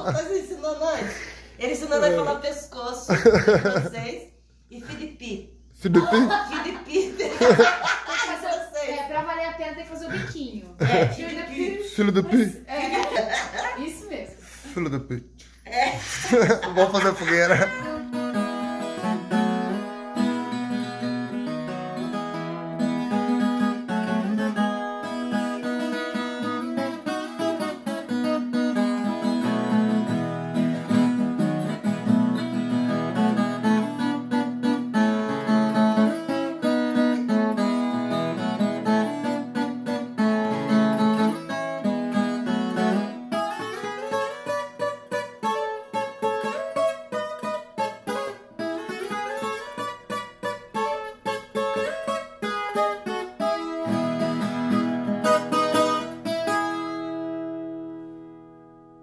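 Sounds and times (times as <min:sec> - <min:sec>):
acoustic guitar music: 0:00.0 - 0:59.0.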